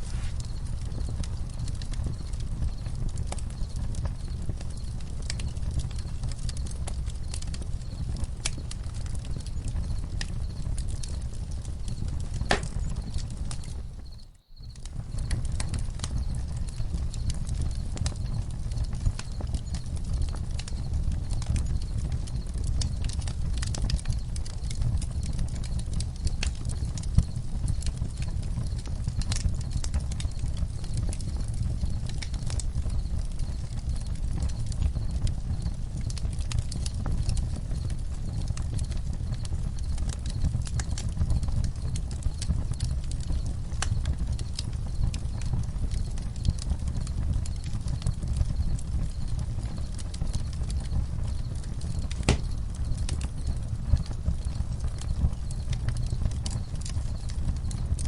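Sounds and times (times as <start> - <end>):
campfire pops and snaps: 0.0 - 13.8, 14.7 - 58.0
low rumble of burning: 0.0 - 58.0.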